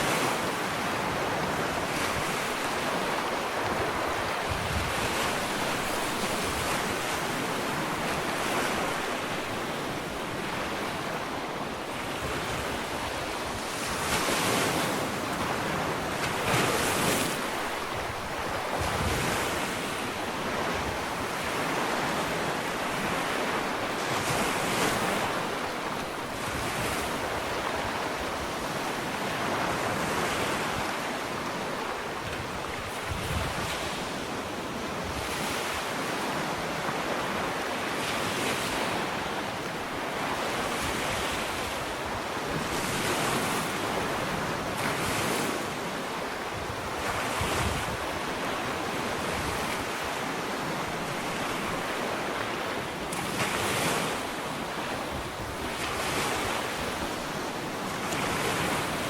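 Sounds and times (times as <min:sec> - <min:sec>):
small waves washing up beach: 0:00.0 - 0:59.0
wind on microphone: 0:00.0 - 0:59.0.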